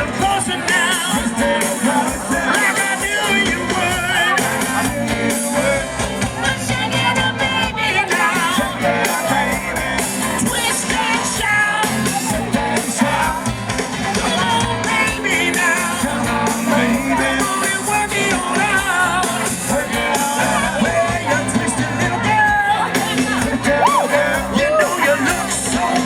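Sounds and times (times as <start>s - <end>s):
lead singer: 0.0s - 26.0s
live rock and roll band: 0.0s - 26.0s.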